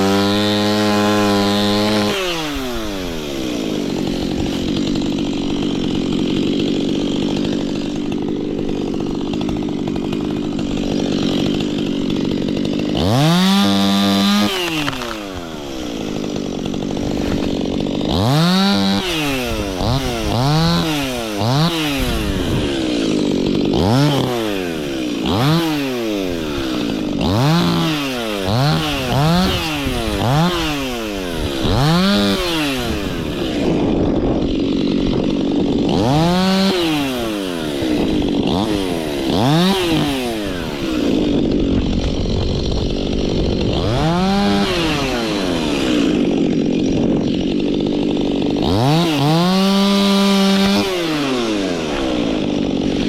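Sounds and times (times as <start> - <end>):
chainsaw running and revving: 0.0 - 53.0.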